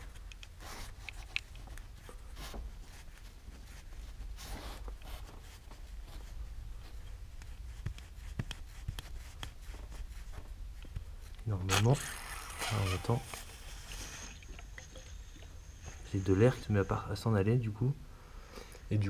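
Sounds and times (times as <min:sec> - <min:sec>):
faint plastic clicks and rustles: 0:00.0 - 0:16.6
low steady hum: 0:00.0 - 0:19.0.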